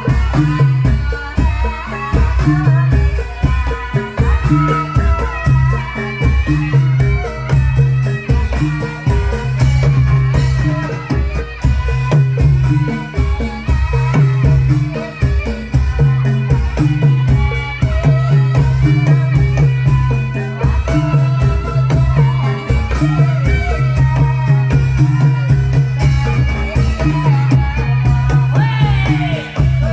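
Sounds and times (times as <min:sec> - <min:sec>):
drums beating steady rhythm: 0:00.0 - 0:29.9
ringing tuned percussion: 0:00.0 - 0:29.9.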